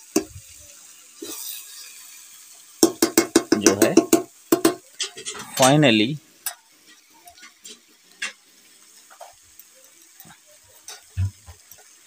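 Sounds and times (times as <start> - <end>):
burning firewood crackling: 0.0 - 12.0
food sizzling in a pan: 0.0 - 12.0.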